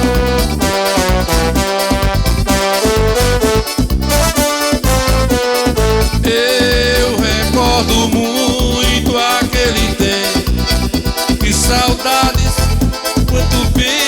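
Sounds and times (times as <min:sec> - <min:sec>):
live band playing instrumental: 0:00.0 - 0:14.0.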